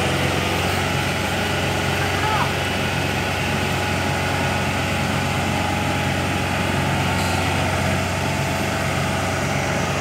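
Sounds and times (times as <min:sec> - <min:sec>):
diesel engine running steadily: 0:00.0 - 0:10.0.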